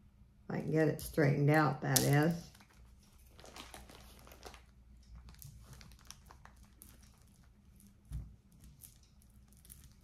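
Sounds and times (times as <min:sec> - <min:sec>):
necklace crinkling and clicking: 0:02.0 - 0:10.0.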